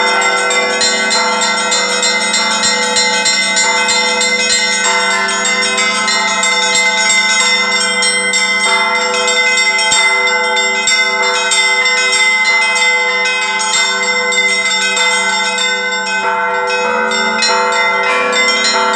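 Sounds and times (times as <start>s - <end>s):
church bells pealing: 0.0s - 18.9s.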